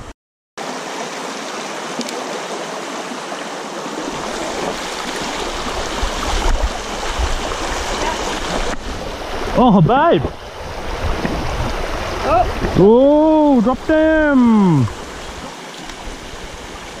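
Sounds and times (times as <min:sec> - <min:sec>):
creek water rushing over stones: 0:00.6 - 0:17.0.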